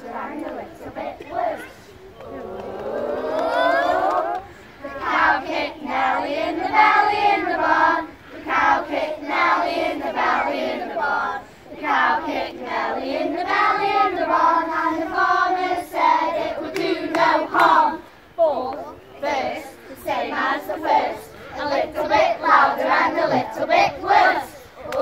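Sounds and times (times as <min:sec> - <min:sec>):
children singing in unison: 0:02.3 - 0:18.0, 0:18.9 - 0:25.0.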